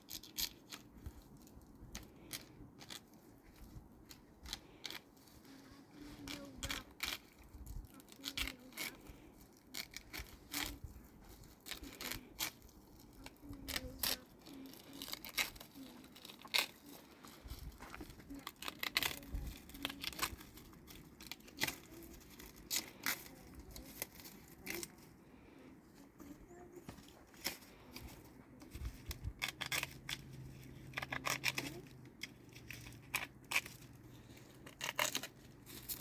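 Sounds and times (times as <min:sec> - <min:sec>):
rustling: 0:00.0 - 0:36.0.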